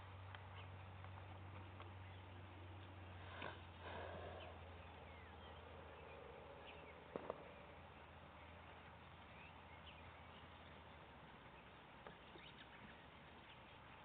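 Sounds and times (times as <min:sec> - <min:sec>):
low hum: 0:00.0 - 0:14.0
faint bird chirps: 0:02.0 - 0:14.0.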